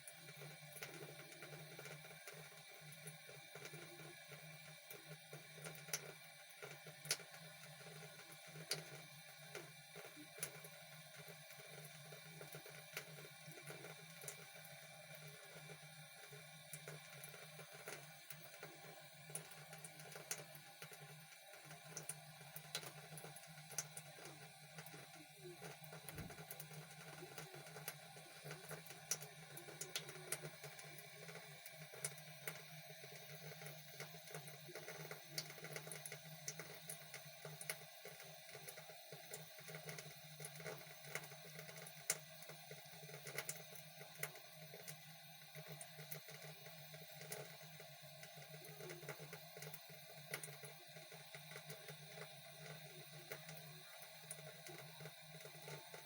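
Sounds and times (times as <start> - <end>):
tap water running into sink: 0.0 - 56.0.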